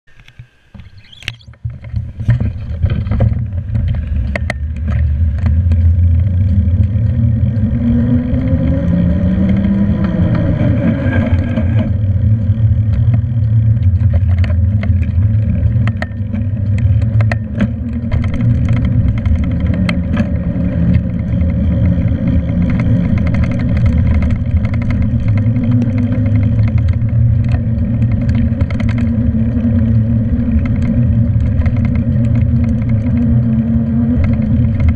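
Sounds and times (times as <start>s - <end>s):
clicks and knocks from bumps: 0.1s - 34.9s
hum rising and falling in pitch: 0.1s - 34.9s
road rumble: 0.1s - 34.9s.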